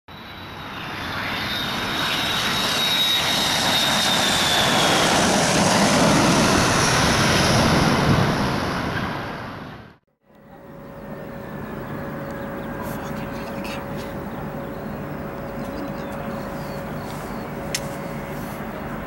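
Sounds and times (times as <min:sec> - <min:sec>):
high turbine whine: 0:00.1 - 0:19.0
jet airliner flying past: 0:00.1 - 0:19.0.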